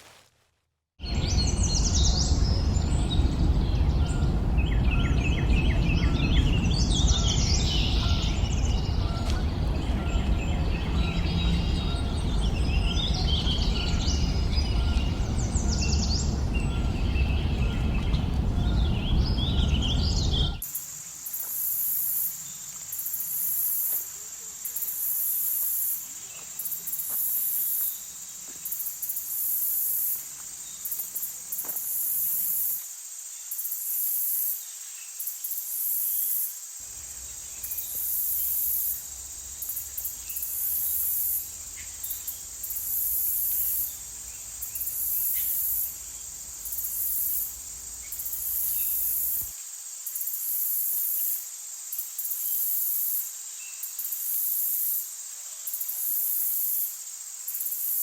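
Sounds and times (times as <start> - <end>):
insects trilling: 1.0 - 58.0.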